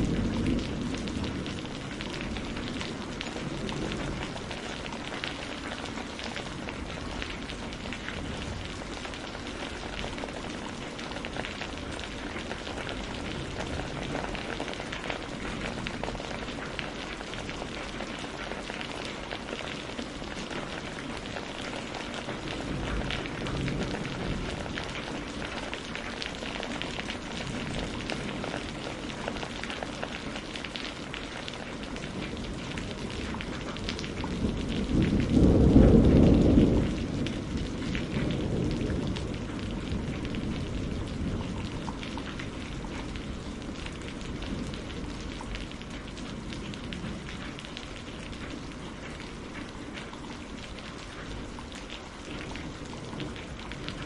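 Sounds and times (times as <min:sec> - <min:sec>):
rain on a greenhouse roof: 0:00.0 - 0:54.0.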